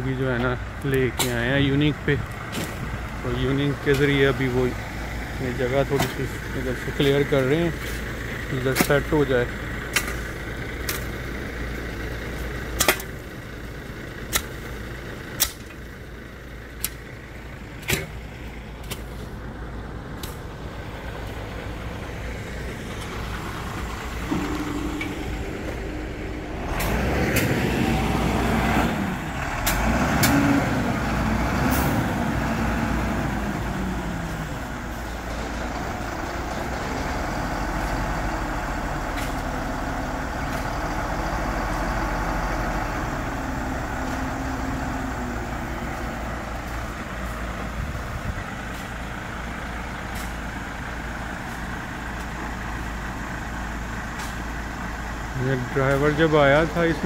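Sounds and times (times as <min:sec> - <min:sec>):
diesel engine revving and idling: 0:00.0 - 0:57.0.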